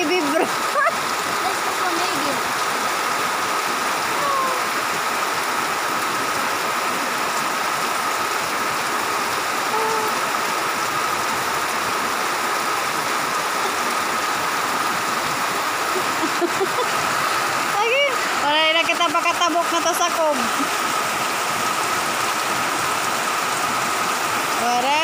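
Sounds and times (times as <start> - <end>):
heavy rain downpour: 0.0 - 25.0
rainwater streaming off roof: 0.0 - 25.0
water splashing on flooded path: 0.0 - 25.0.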